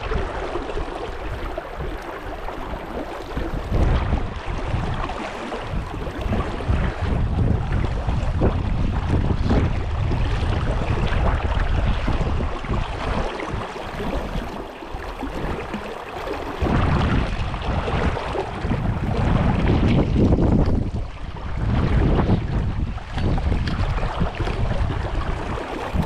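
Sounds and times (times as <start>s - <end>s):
brook water flowing: 0.0s - 26.0s
wind buffeting microphone: 0.0s - 26.0s.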